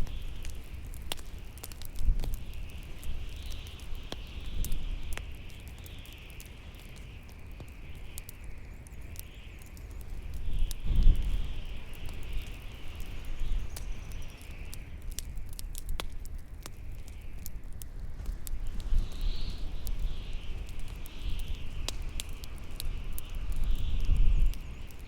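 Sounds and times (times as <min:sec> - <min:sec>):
bonfire crackling and popping: 0:00.0 - 0:25.0
howling wind: 0:00.0 - 0:25.0.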